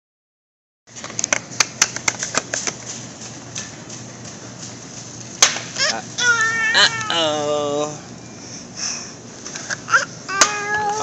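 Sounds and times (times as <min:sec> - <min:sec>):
steady low hum: 0:00.9 - 0:11.0.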